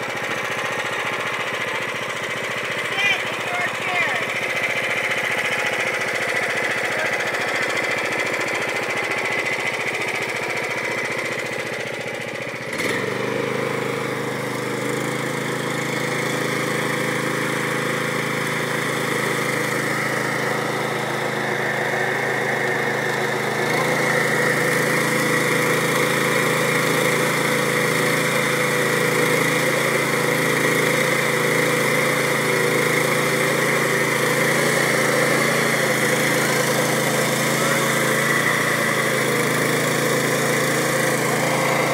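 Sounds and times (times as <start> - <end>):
small gasoline engine running: 0.0 - 41.9.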